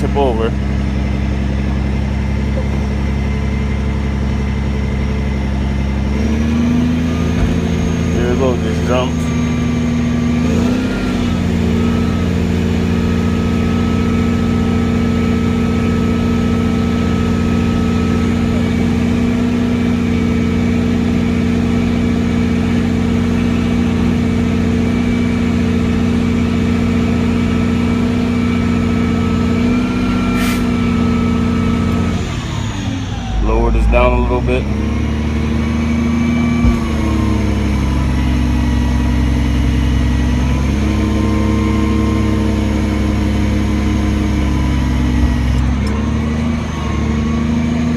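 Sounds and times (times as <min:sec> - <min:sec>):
diesel truck engine at raised revs: 0:00.0 - 0:47.9.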